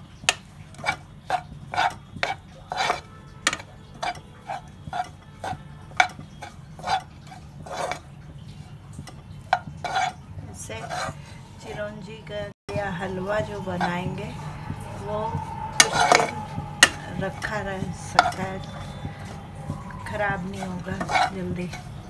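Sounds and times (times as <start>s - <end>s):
metal spoon scraping a pan: 0.0s - 12.0s, 12.8s - 22.0s.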